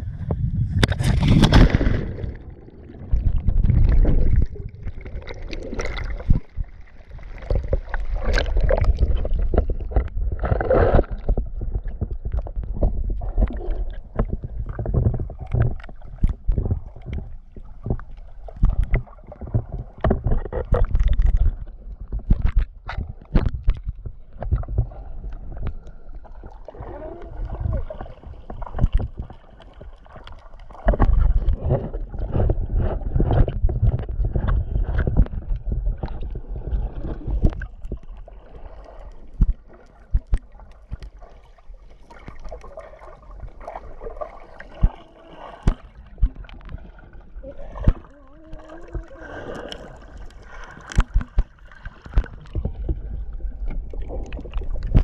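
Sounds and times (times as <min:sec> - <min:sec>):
underwater rumble and gurgling: 0:00.0 - 0:55.0.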